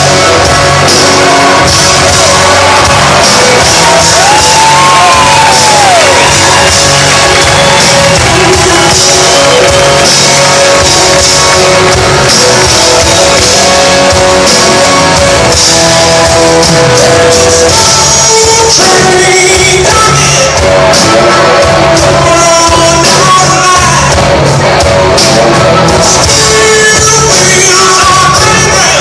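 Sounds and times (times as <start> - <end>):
blues-rock band playing loudly: 0.0 - 29.0.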